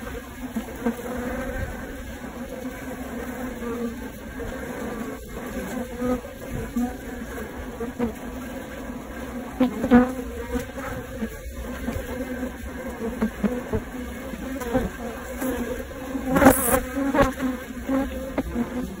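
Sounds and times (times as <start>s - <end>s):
bees humming drone: 0.0s - 19.0s
single bees buzzing close: 0.0s - 19.0s.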